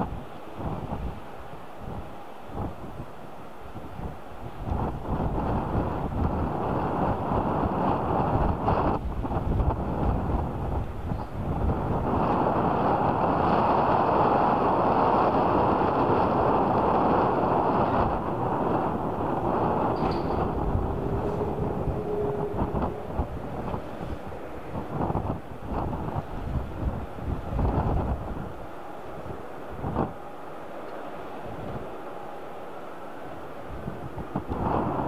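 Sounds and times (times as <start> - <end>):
jet engines running: 0.0 - 35.0
wind buffeting microphone: 0.0 - 35.0.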